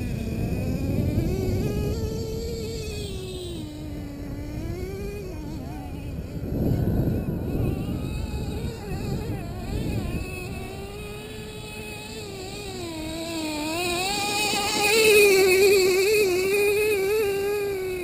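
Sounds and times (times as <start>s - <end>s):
small engine of toy car: 0.0s - 18.0s.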